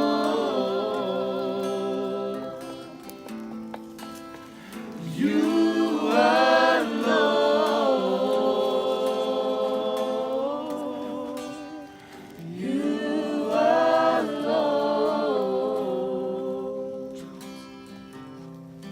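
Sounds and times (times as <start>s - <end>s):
voices singing gospel song: 0.0s - 3.4s, 4.7s - 17.2s.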